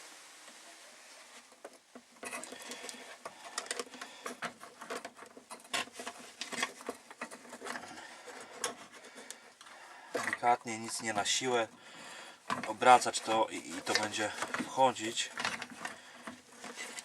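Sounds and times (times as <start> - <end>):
plastic clicking and scraping on tank: 1.5 - 11.8, 12.5 - 17.0.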